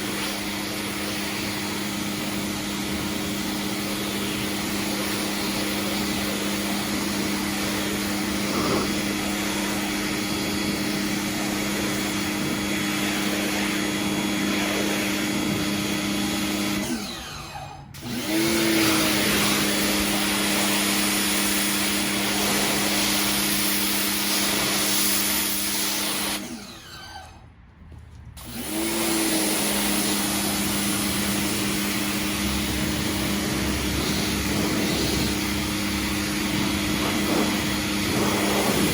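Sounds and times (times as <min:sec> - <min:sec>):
pressure washer motor hum: 0:00.0 - 0:38.9.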